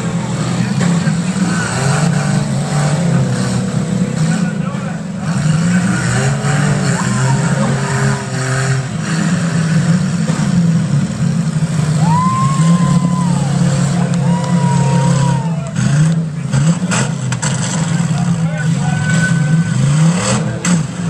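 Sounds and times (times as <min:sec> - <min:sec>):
voices calling out: 0:00.0 - 0:09.3, 0:11.9 - 0:17.2, 0:17.8 - 0:21.0
car engines revving: 0:00.0 - 0:21.0.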